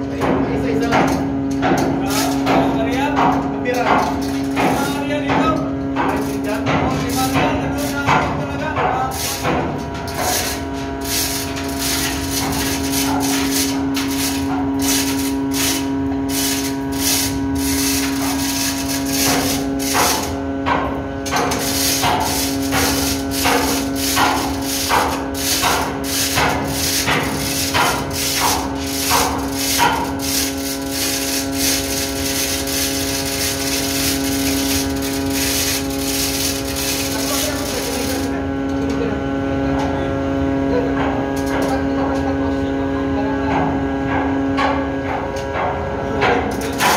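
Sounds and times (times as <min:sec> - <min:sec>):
machinery hum: 0:00.0 - 0:46.9.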